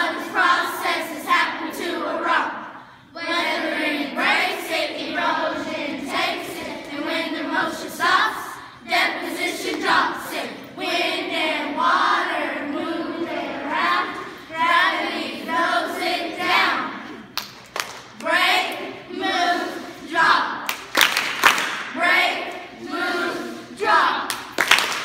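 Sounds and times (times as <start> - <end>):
children singing in unison: 0.0 - 17.2, 18.2 - 20.6, 22.0 - 24.3.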